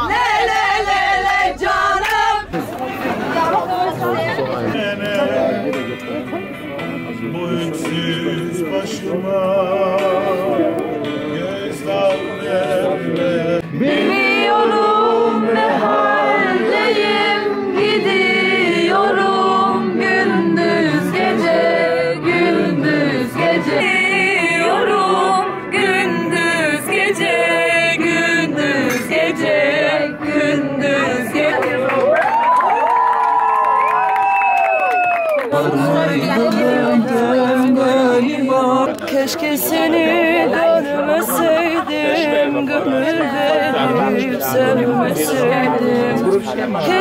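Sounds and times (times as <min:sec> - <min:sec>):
music with singing: 0:00.0 - 0:33.9, 0:35.3 - 0:47.0.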